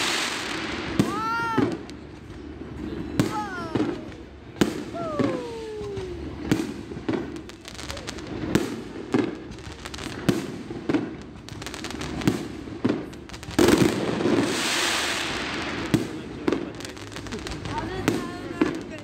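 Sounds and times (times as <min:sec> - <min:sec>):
firework hiss: 0:00.0 - 0:19.0
fireworks bangs: 0:00.0 - 0:19.0.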